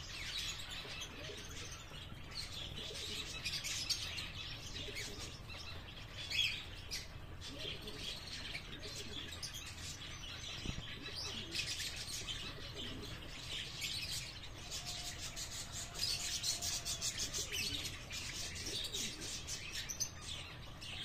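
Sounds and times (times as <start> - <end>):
birds chirping and twittering: 0.0 - 21.0.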